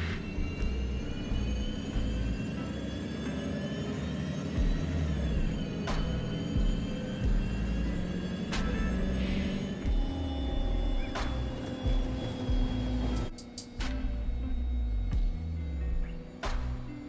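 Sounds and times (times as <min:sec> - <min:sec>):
bus engine rumble: 0:00.0 - 0:17.0
steady high whine: 0:00.0 - 0:17.0.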